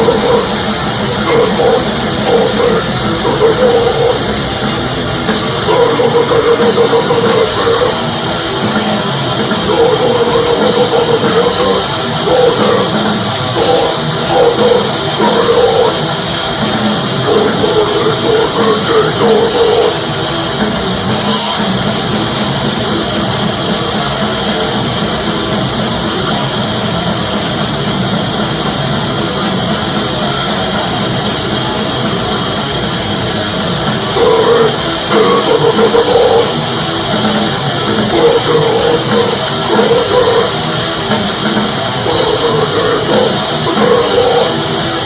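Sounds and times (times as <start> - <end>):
distorted guitars: 0.0 - 45.0
drum kit: 0.0 - 45.0.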